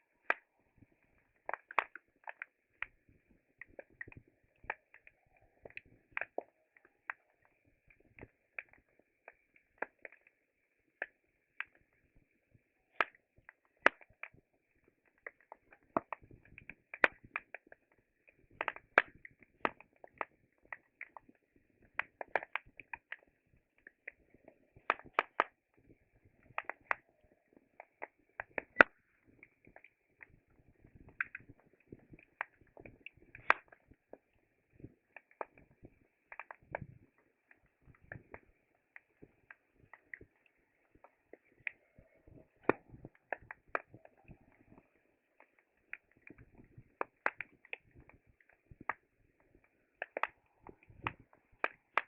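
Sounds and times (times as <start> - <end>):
wood fire crackling: 1.4 - 9.0, 15.1 - 44.8, 45.4 - 52.0.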